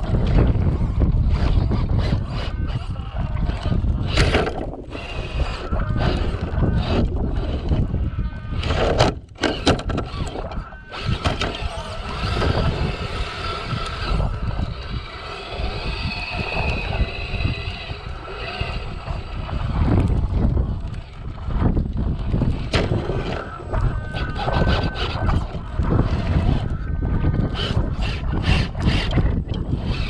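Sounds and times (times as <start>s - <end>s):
electric motor and gears whining: 0.0s - 30.0s
wind rumble on microphone: 0.0s - 30.0s.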